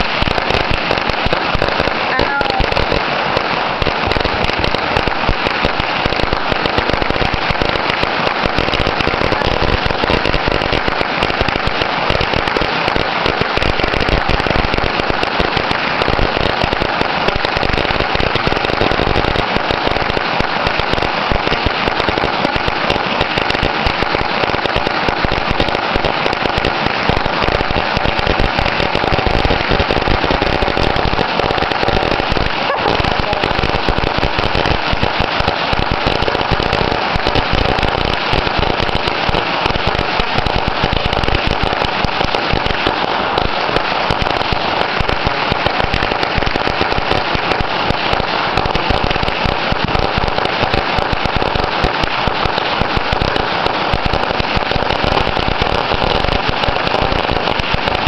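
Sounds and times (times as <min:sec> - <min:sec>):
firecrackers going off: 0:00.0 - 0:58.0.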